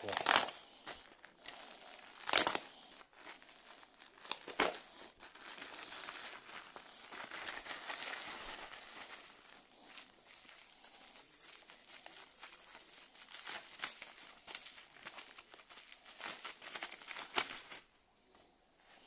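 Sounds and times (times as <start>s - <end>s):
plastic bag tearing: 0.0s - 18.0s
plastic crinkling: 0.0s - 19.0s.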